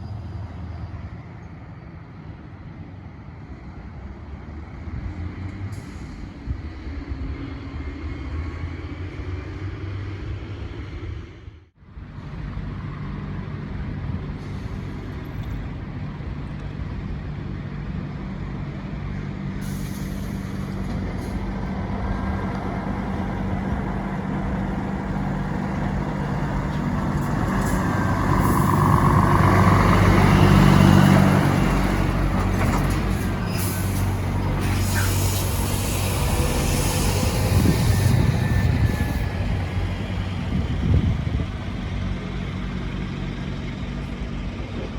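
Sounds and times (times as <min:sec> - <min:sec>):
heavy truck passing: 0:00.0 - 0:44.9.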